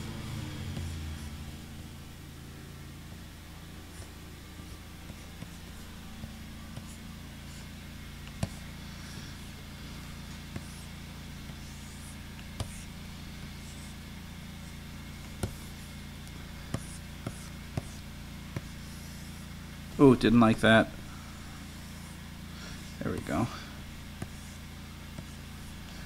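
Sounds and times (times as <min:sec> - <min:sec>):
stylus scratching on tablet: 0:00.0 - 0:02.0, 0:03.2 - 0:20.3, 0:21.0 - 0:26.0
lawn mowers droning: 0:00.0 - 0:26.0.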